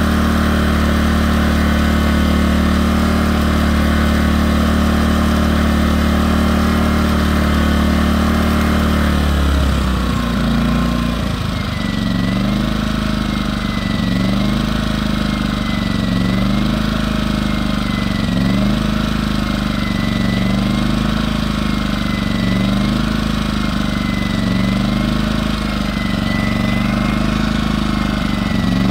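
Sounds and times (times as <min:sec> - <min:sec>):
generator engine running: 0:00.0 - 0:28.9.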